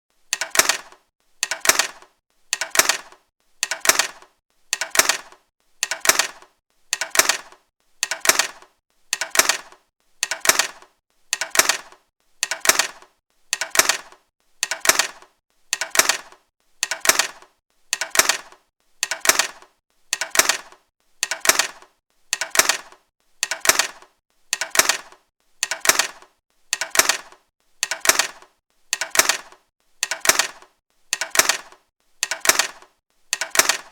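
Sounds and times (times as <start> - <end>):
eyeglasses clattering on laptop: 0.3 - 33.9.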